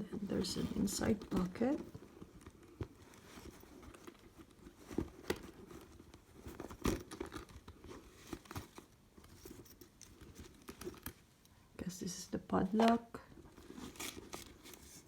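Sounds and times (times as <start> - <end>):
wrapping rustling and crinkling: 0.0 - 11.4, 12.6 - 15.0.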